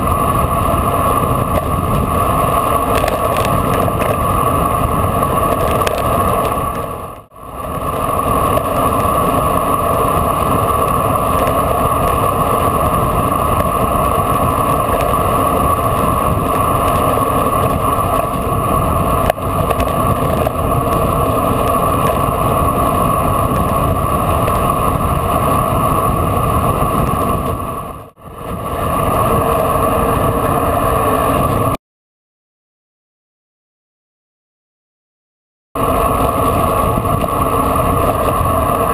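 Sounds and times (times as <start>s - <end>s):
tyre noise on asphalt: 0.0s - 31.7s, 35.8s - 38.9s
wind rush on microphone: 0.0s - 31.8s, 35.8s - 38.9s.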